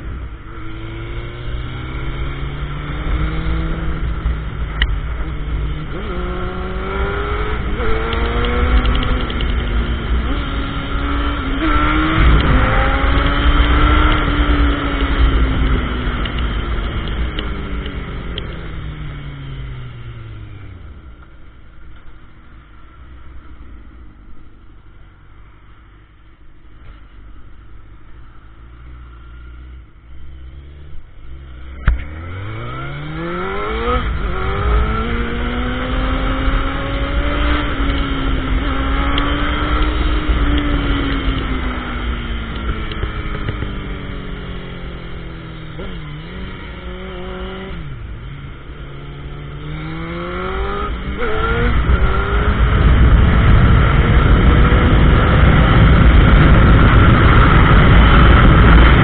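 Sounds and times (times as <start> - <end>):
motorcycle engine accelerating: 0.0 - 25.8, 26.7 - 59.0.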